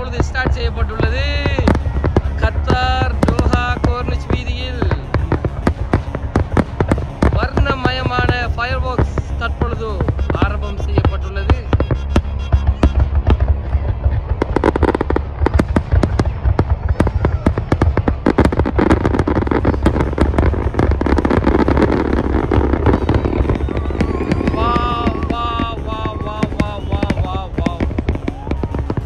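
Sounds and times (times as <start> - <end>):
fireworks cracks and bangs: 0.0 - 29.0
low rumble: 0.0 - 29.0.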